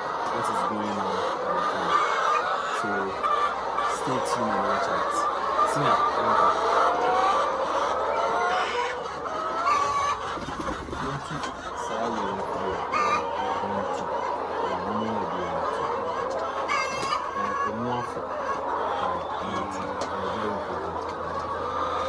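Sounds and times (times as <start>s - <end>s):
chicken squawks: 0.0s - 22.0s
chickens clucking: 0.0s - 22.0s.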